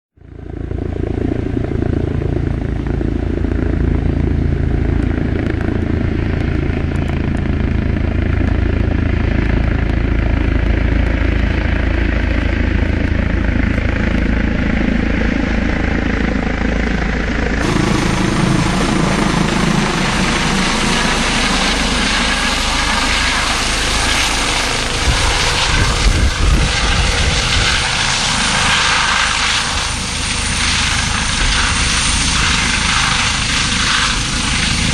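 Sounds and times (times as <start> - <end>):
helicopter rotor and turbine: 0.2 - 34.9.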